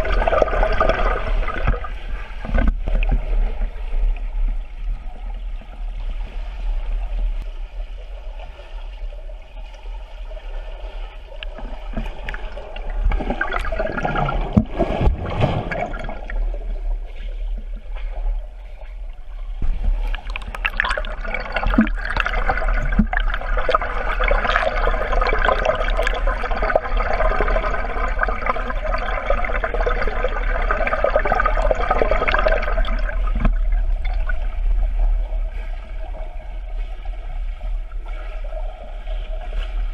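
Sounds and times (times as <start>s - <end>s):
underwater churning and bubbling: 0.0s - 39.9s.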